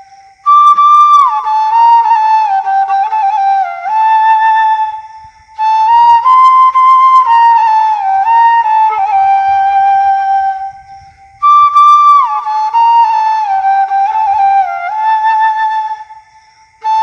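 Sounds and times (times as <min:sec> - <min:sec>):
bamboo flute slow melody: 0:00.0 - 0:17.0.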